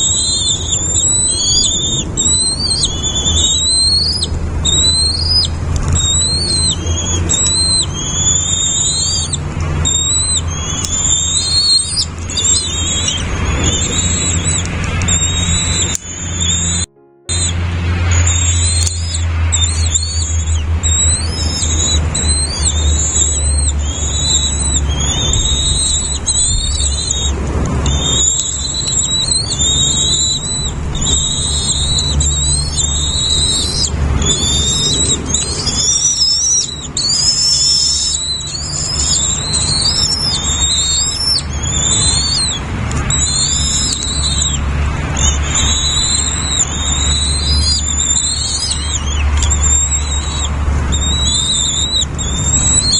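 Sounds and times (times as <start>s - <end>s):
nestlings begging chirps: 0.0s - 52.9s
steady low rumble: 0.0s - 52.9s.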